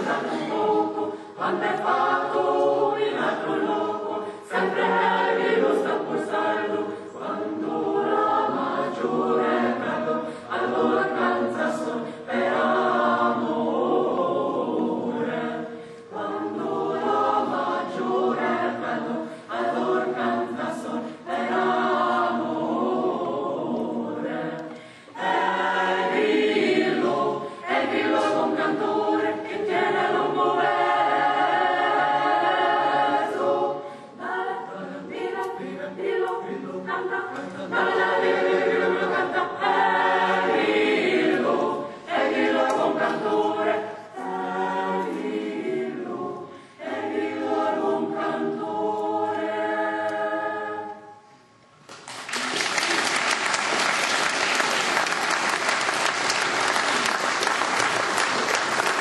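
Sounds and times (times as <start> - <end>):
mixed choir singing a cappella: 0.0 - 51.6.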